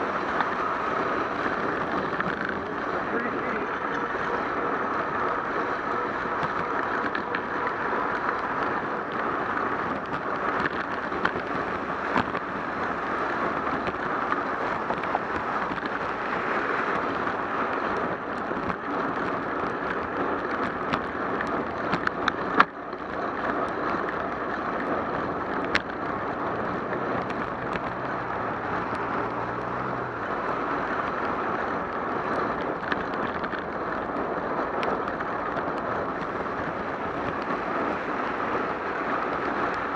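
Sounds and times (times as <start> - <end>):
bicycle clicks and rattles: 0.0 - 39.9
bicycle rolling on wet pavement: 0.0 - 39.9
passing traffic: 0.0 - 39.9
wind on microphone: 0.0 - 39.9.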